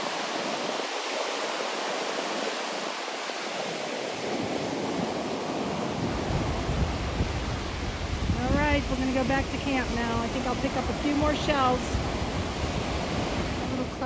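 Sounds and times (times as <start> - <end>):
waves breaking on beach: 0.0 - 14.0
wind rumble on microphone: 0.0 - 14.0.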